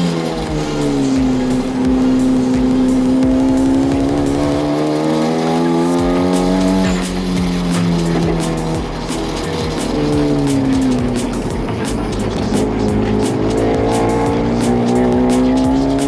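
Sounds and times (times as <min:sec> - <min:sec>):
faint background music: 0:00.0 - 0:16.0
race car engine pulling hard: 0:00.0 - 0:16.0.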